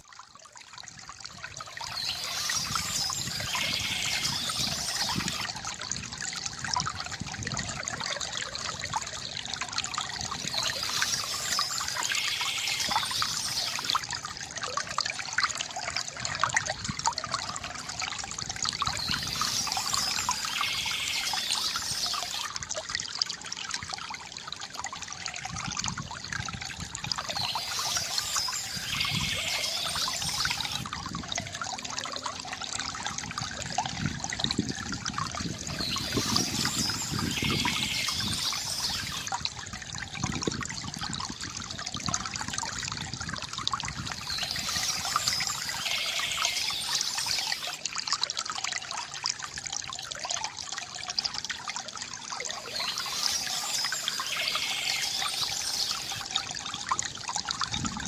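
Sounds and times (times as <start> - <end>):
water splashing from fountain: 0.0 - 58.0.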